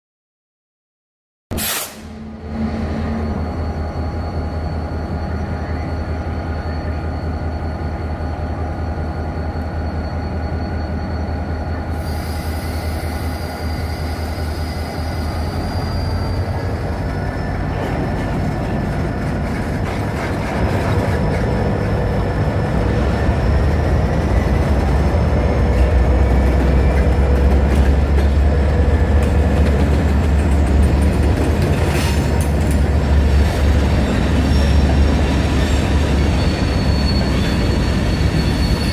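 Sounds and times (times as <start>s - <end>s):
diesel locomotive engines rumbling: 1.6s - 38.9s
high wheel squeals: 2.5s - 29.6s, 31.8s - 38.9s.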